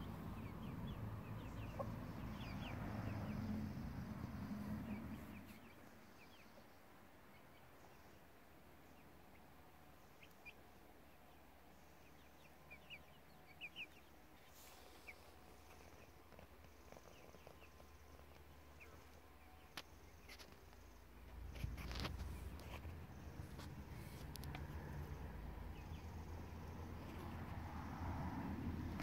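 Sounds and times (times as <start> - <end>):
chicks peeping: 0.0 - 8.3, 8.9 - 27.6.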